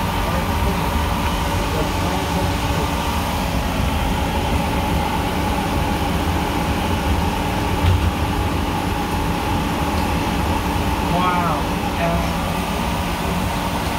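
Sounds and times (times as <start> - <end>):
bus engine and road rumble: 0.0 - 13.9
constant hum: 0.0 - 13.9.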